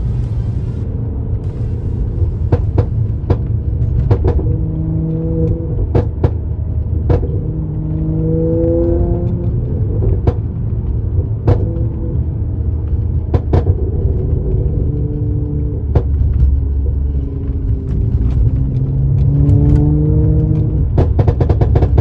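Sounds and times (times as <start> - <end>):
car engine droning: 0.0 - 22.0
exhaust pops and crackles: 0.0 - 22.0.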